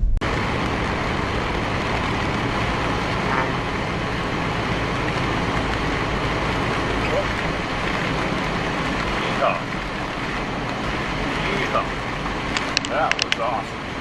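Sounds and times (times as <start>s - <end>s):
vehicle road and wind noise: 0.0s - 14.0s.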